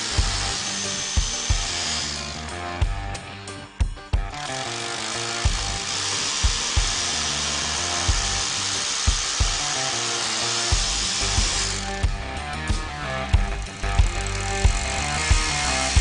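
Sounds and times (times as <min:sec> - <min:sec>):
hammer drill running: 0:00.0 - 0:02.6, 0:04.2 - 0:12.2, 0:13.1 - 0:16.0
music with drum beat: 0:00.2 - 0:01.9, 0:02.8 - 0:03.2, 0:03.8 - 0:07.2, 0:08.1 - 0:16.0.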